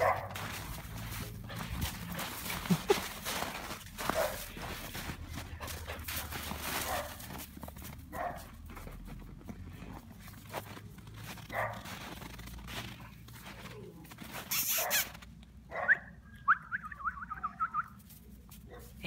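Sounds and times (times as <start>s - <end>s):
puppy rustling in snow: 0.0s - 15.3s.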